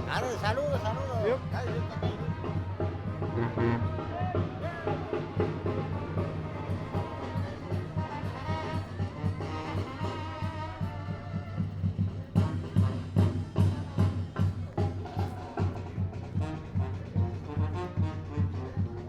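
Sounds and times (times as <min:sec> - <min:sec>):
trumpets and trombones: 0:00.0 - 0:11.7, 0:12.4 - 0:19.0
bass drum and snare beat: 0:00.0 - 0:19.0.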